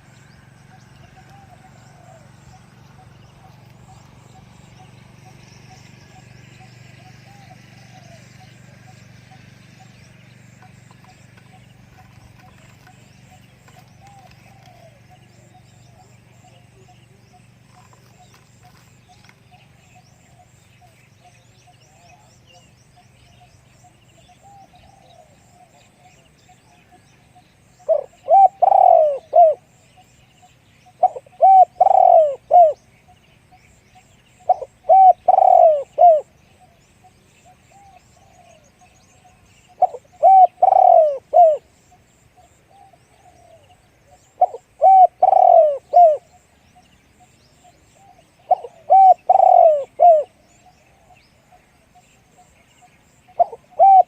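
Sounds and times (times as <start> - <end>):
dove cooing: 0.0 - 23.0, 23.8 - 27.0, 27.8 - 30.1, 30.8 - 32.9, 34.0 - 41.8, 42.4 - 46.5, 47.2 - 54.0
small birds chirping: 0.0 - 54.0.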